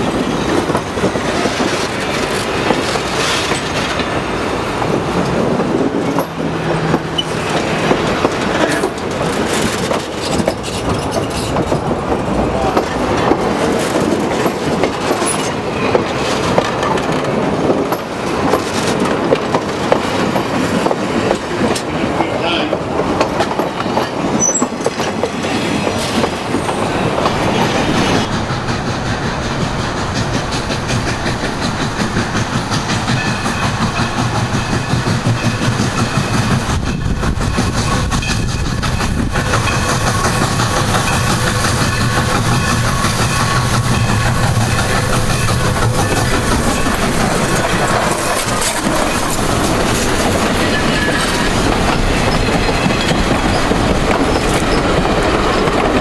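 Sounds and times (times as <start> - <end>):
train low rumble: 0.0 - 56.0
train wheels clicking over rails: 0.0 - 56.0.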